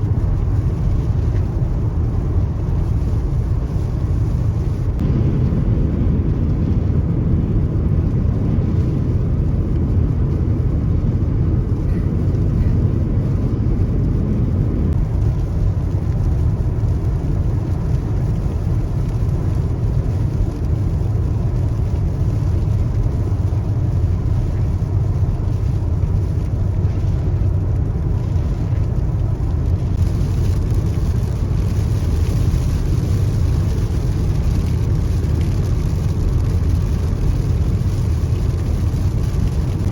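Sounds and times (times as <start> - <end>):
car interior road noise: 0.0 - 39.9.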